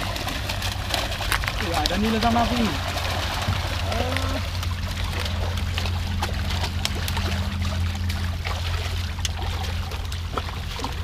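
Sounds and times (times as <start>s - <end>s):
fish thrashing and splashing: 0.0s - 11.0s
steady low hum: 0.0s - 11.0s.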